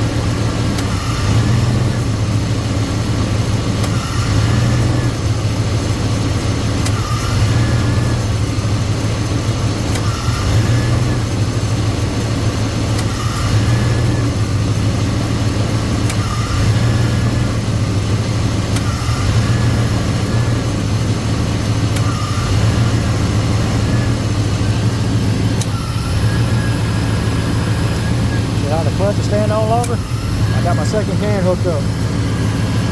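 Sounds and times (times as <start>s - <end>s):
car engine idling: 0.0s - 32.9s
compressor clutch clicking: 0.3s - 2.4s, 3.3s - 11.5s, 12.8s - 26.6s, 27.2s - 32.0s.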